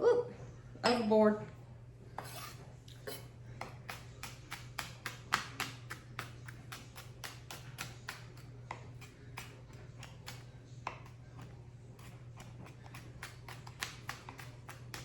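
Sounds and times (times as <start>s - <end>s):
knife chopping on cutting board: 2.2s - 15.0s.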